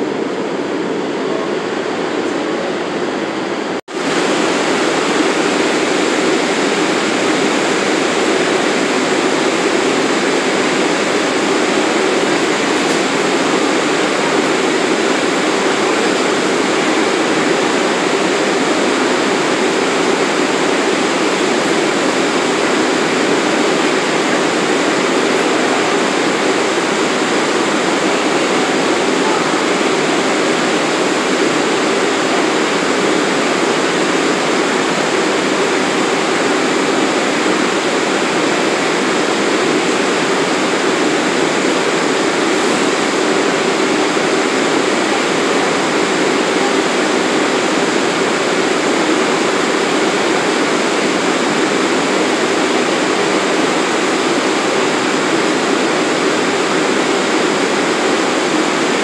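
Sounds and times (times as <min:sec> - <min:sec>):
subway train hiss: 0:00.0 - 0:59.0.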